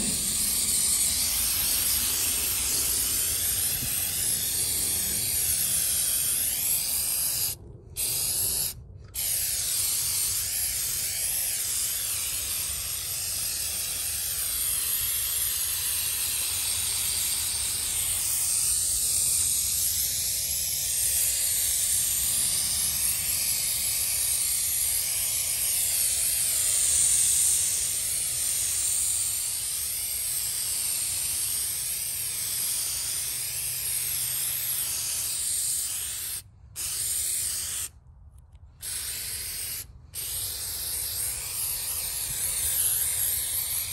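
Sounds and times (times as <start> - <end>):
aerosol can spraying: 0.0 - 37.9, 38.8 - 43.9.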